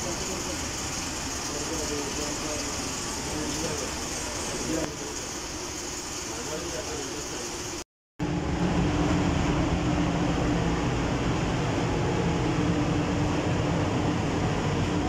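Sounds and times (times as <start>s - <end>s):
ventilation fans running: 0.0s - 15.0s.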